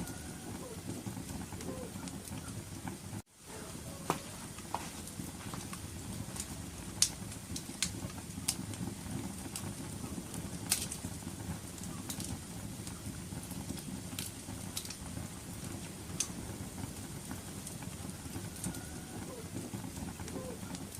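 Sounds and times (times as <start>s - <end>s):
fire crackling and popping: 0.0s - 20.9s
fire rumbling in fireplace: 0.0s - 20.9s.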